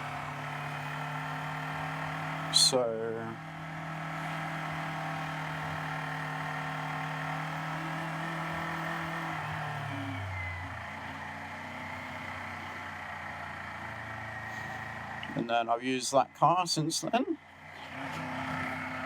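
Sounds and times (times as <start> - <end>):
motorcycle engine running: 0.0 - 15.4
road and wind noise: 0.0 - 19.0.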